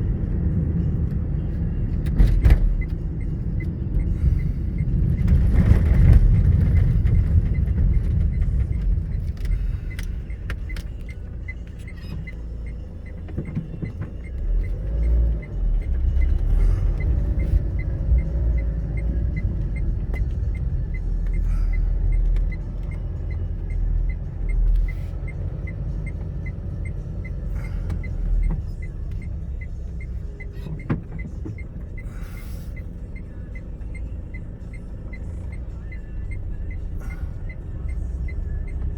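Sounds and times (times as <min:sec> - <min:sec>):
low rumble of traffic: 0:00.0 - 0:38.9
car indicator ticking: 0:06.5 - 0:38.9.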